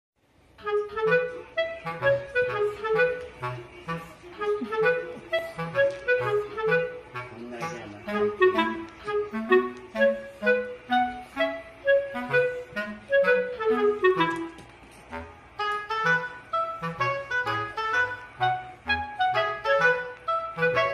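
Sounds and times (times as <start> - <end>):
woodwind melody: 0.5 - 20.9.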